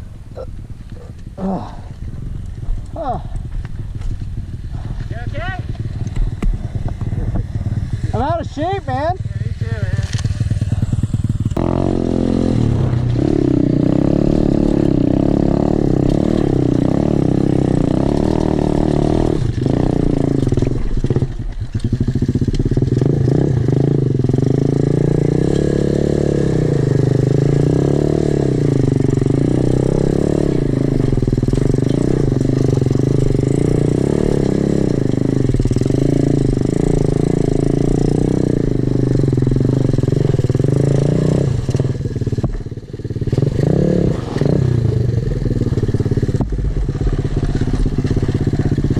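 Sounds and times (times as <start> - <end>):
motorbike engine revving: 0.0 - 48.9.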